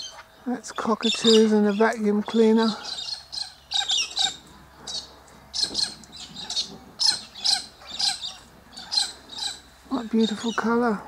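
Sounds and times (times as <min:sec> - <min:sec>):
cockatoos squawking: 0:00.0 - 0:11.0.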